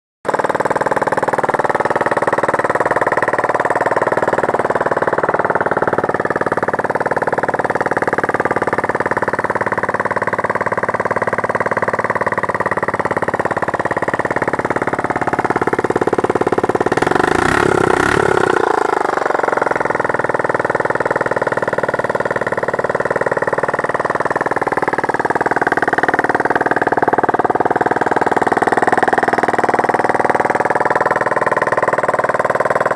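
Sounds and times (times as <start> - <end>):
motorcycle engine idling: 0.3 - 32.9.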